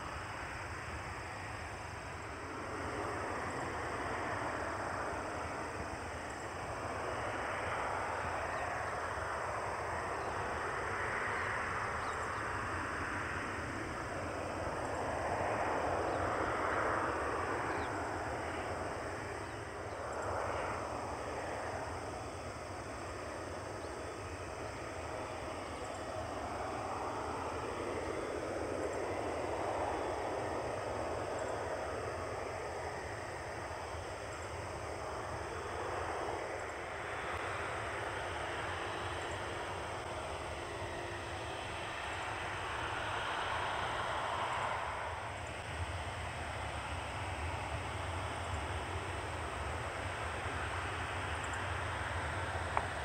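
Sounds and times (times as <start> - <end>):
distant jet engines hissing: 0.0 - 53.0.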